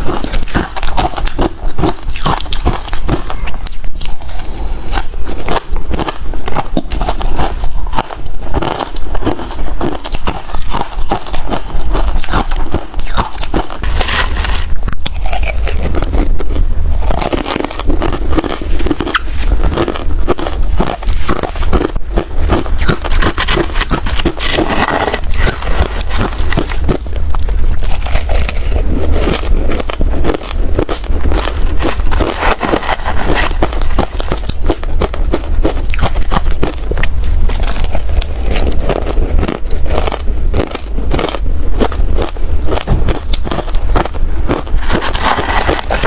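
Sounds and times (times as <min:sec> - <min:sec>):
ice cubes being chewed: 0:00.0 - 0:46.0.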